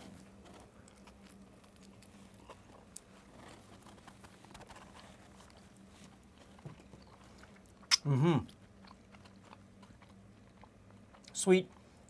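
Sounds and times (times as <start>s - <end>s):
steady low hum: 0.0s - 12.0s
people chewing: 0.1s - 12.0s.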